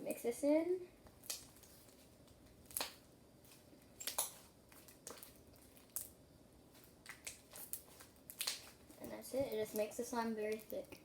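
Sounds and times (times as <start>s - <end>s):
slime squelching: 1.0s - 11.0s.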